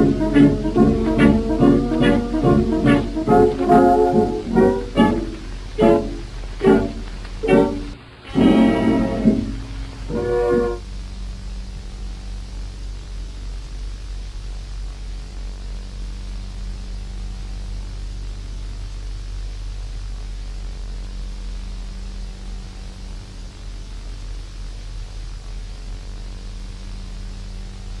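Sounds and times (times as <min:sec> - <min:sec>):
low electrical hum: 0:00.0 - 0:28.0
static hiss: 0:00.0 - 0:28.0.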